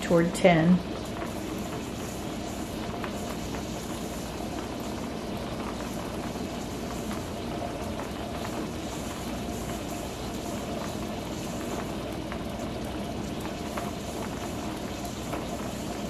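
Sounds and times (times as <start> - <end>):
water boiling in pressure canner: 0.0 - 16.0.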